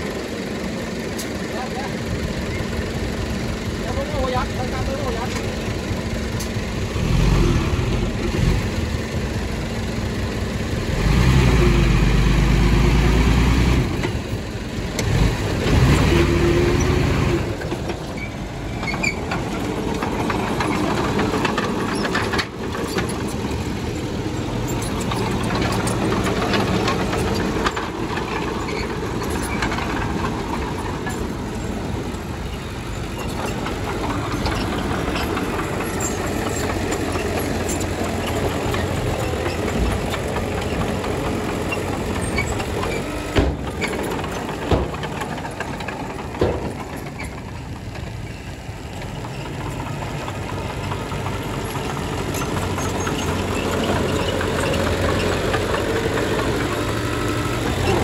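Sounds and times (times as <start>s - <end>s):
diesel engines of earthmoving machinery: 0.0s - 58.0s.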